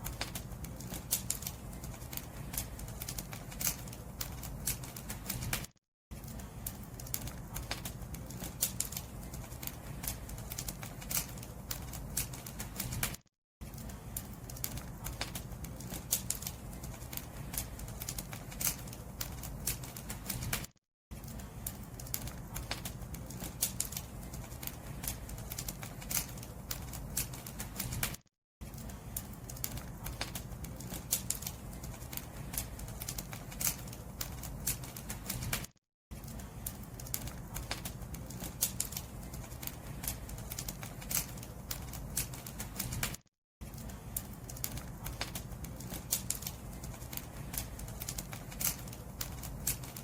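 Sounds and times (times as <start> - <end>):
firewood crackling and popping: 0.0 - 50.0
low rumble of flames: 0.0 - 50.0.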